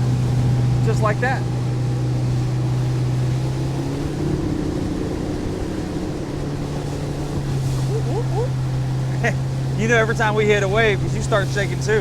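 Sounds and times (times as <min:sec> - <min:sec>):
motorboat engine droning: 0:00.0 - 0:12.0
rushing water and wind: 0:00.0 - 0:12.0.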